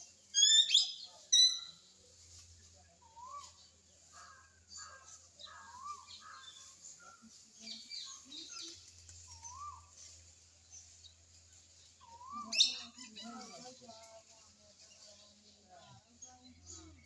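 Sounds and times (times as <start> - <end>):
birds chirping and twittering: 0.0 - 17.0.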